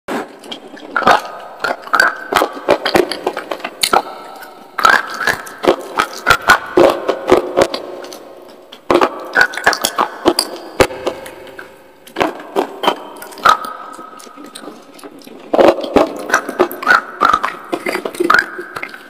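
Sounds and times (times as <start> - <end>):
crunchy chewing: 0.1 - 19.0.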